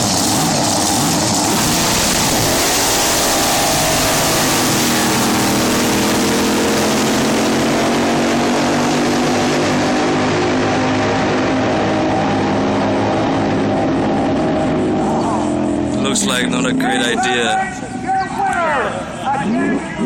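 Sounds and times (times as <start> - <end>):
boat engine running loud: 0.0 - 20.0.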